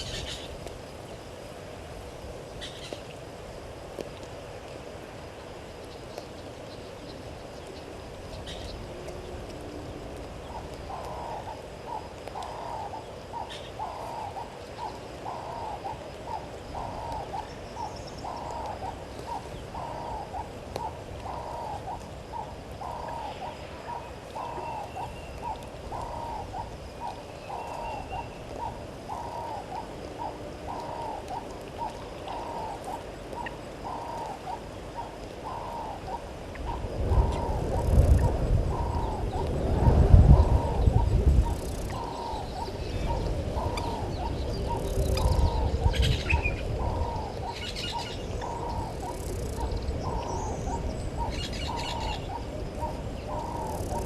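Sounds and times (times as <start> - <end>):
bird hooting low notes: 8.4 - 54.0.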